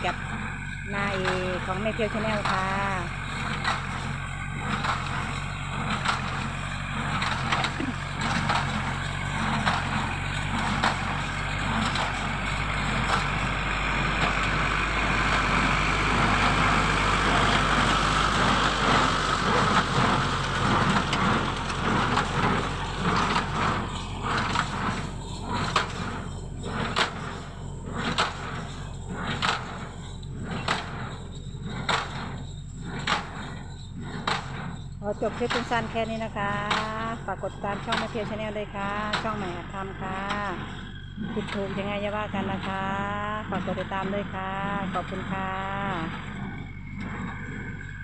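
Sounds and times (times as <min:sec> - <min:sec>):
hay baler knocking: 0:00.0 - 0:48.0
tractor engine running: 0:00.0 - 0:48.0.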